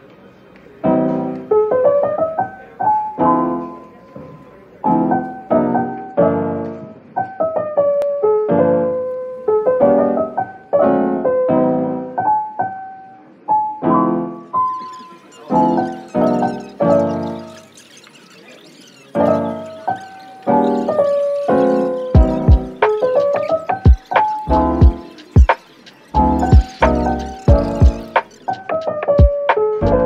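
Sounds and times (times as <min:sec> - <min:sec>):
piano chords: 0:00.7 - 0:30.0
piano melody of single notes: 0:00.8 - 0:30.0.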